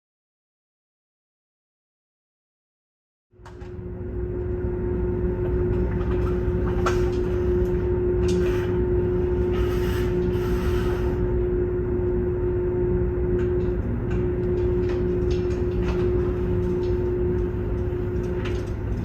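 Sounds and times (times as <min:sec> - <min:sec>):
low mechanical rumble: 0:03.4 - 0:19.0
mid-pitched hum: 0:03.4 - 0:19.0.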